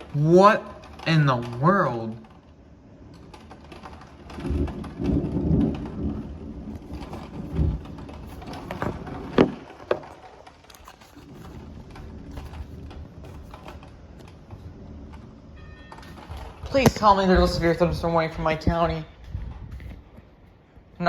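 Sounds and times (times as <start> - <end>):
rain falling: 0.0 - 18.3
low rumble of thunder: 0.0 - 21.0.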